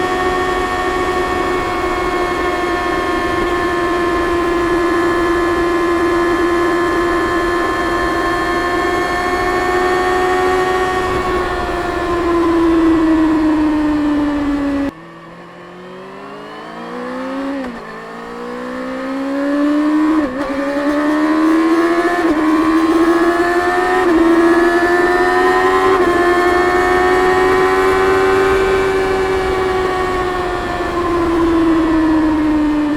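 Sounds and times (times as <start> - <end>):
motorcycle engine changing gears: 0.0 - 32.9.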